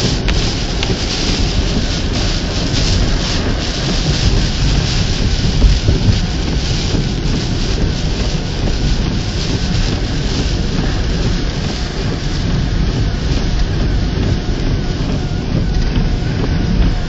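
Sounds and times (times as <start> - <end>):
rain: 0.0 - 17.0
wind buffeting microphone: 0.0 - 17.0.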